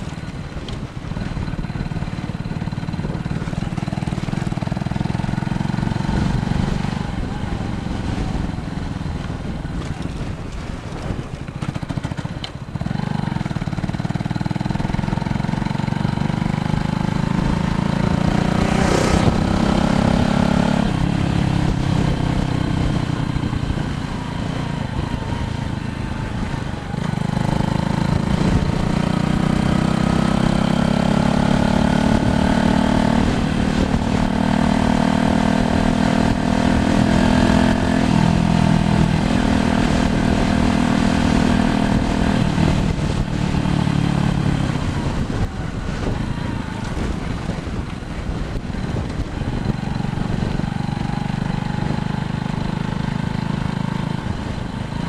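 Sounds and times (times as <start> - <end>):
vehicle engine shifting gears: 0.0 - 55.0
wind and road noise: 0.0 - 55.0.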